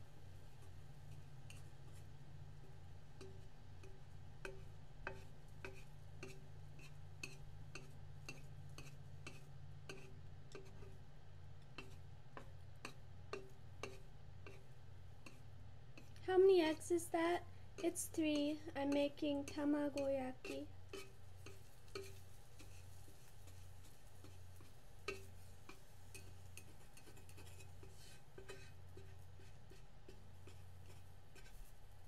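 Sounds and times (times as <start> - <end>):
low steady hum: 0.0 - 32.0
chopsticks tapping on a pan: 2.6 - 11.0, 11.6 - 16.2, 17.8 - 31.6.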